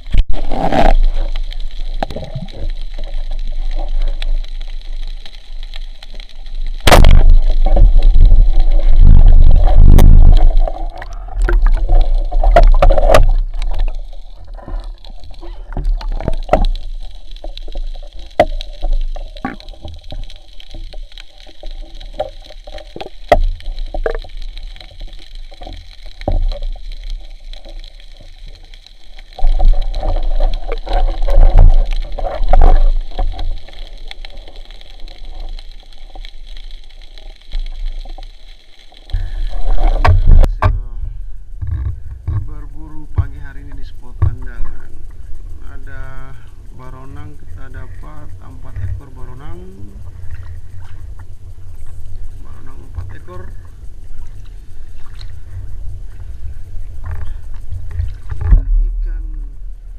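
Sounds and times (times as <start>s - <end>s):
faint hum: 0.0s - 59.9s
underwater gurgling and rushing: 0.0s - 59.9s.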